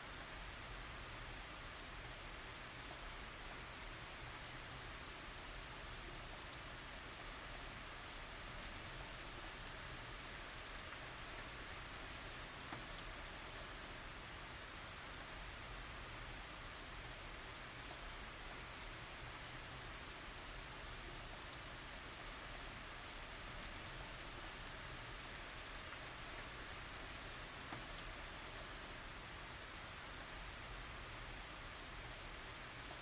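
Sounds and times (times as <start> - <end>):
rain pattering on surfaces: 0.0 - 33.0.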